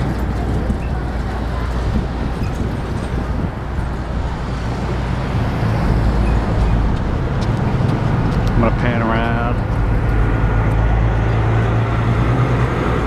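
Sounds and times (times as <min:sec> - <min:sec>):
road traffic passing: 0:00.0 - 0:13.0
wind rumbling on microphone: 0:00.0 - 0:13.0.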